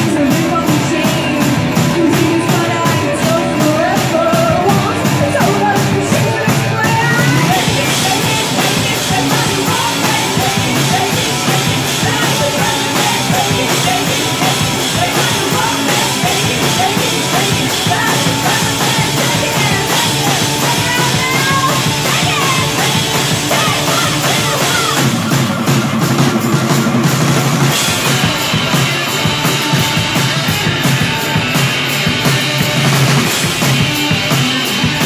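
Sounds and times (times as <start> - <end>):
distorted electric guitar: 0.0 - 35.0
driving drum kit: 0.0 - 35.0.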